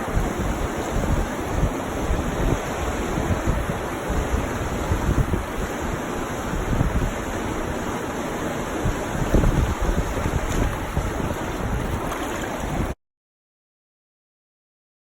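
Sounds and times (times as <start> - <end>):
fast river water rushing: 0.0 - 13.0
wind buffeting microphone: 0.0 - 13.0.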